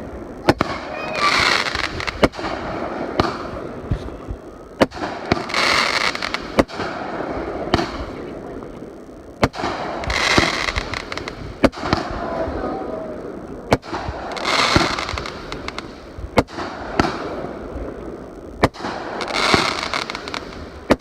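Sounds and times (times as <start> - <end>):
fireworks bangs: 0.0 - 21.0
fireworks hissing crackle: 0.0 - 21.0.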